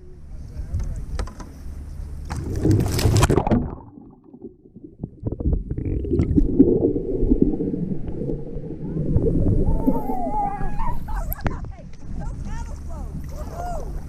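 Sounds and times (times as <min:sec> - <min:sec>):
water sloshing and gurgling: 0:01.5 - 0:14.0.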